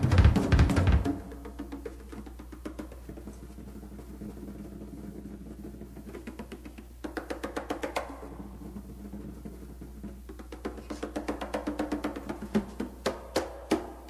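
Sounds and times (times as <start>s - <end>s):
drum kit solo: 0.0s - 14.0s.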